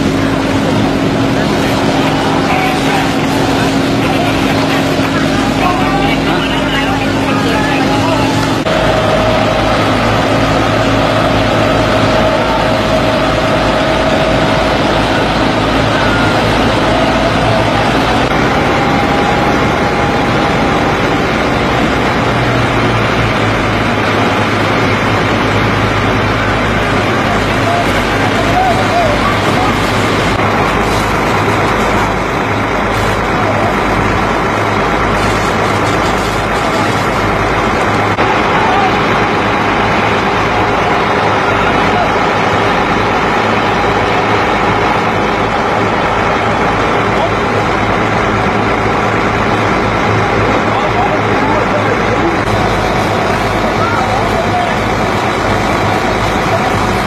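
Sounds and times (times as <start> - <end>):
fire engine motor running: 0.0 - 57.0
people's voices: 0.0 - 57.0.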